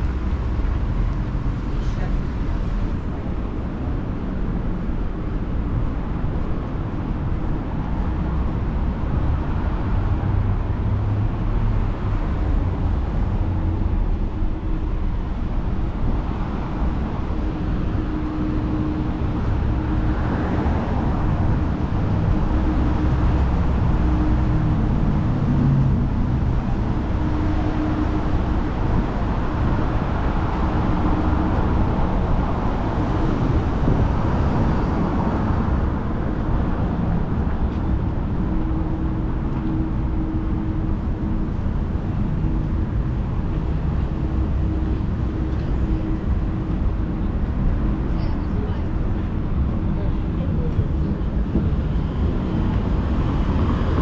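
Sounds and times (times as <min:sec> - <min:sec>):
road traffic with cars passing: 0:00.0 - 0:54.0.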